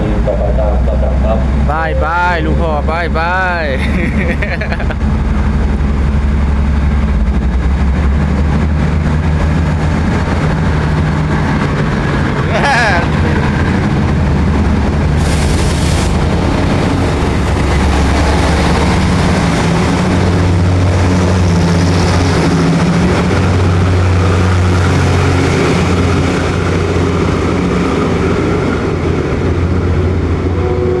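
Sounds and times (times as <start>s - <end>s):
diesel locomotive engine running: 0.0s - 31.0s.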